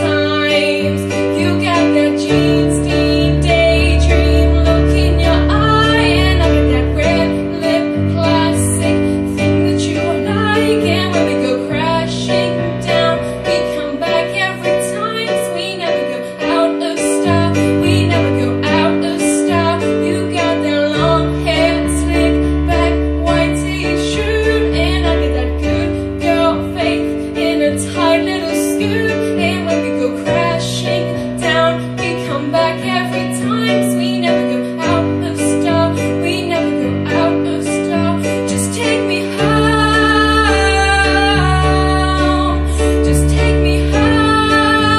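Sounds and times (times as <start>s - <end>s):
instrumental accompaniment: 0.0s - 44.9s
woman singing into a microphone: 0.0s - 44.9s.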